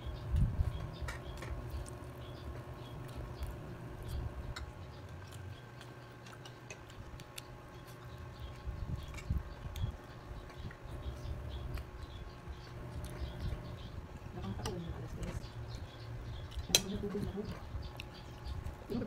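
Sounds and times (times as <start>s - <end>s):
faint steady hum: 0.0s - 19.0s
chewing sounds: 1.2s - 18.9s.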